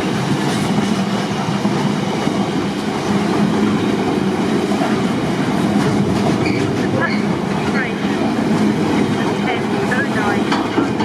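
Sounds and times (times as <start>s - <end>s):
train wheels rolling on rail: 0.0s - 11.0s.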